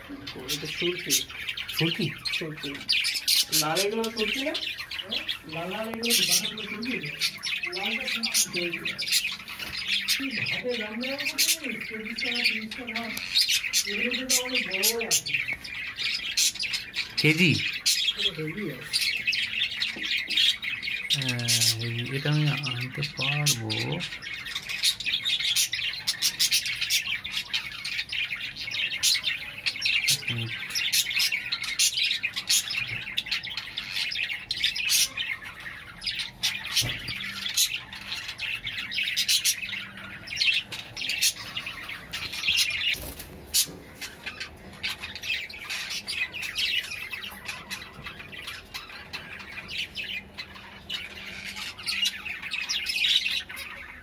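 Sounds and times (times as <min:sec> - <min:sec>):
caged birds chirping and squawking: 0:00.0 - 0:54.0.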